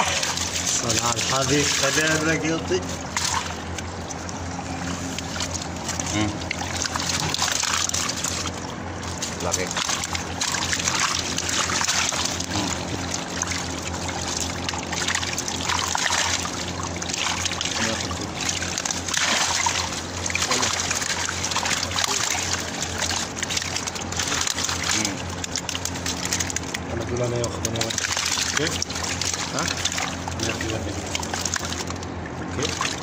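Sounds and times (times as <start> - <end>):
fish splashing in a net: 0.0 - 33.0
steady low hum: 0.0 - 33.0.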